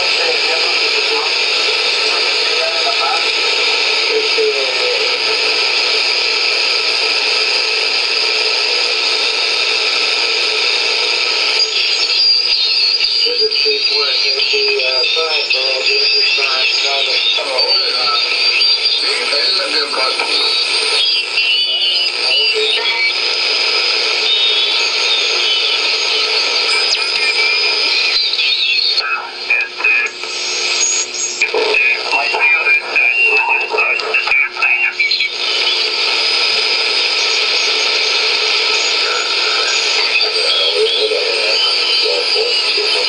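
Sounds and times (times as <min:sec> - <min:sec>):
radio static hiss: 0:00.0 - 0:43.0.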